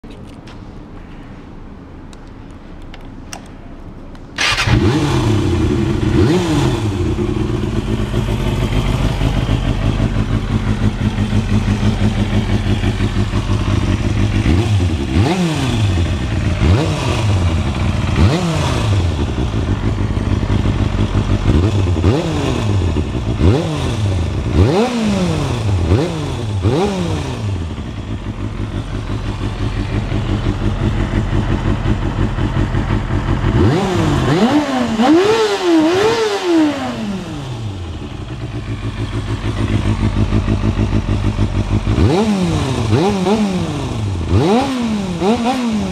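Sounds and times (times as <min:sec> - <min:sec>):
motorcycle engine idling and revving: 0:04.4 - 0:45.9.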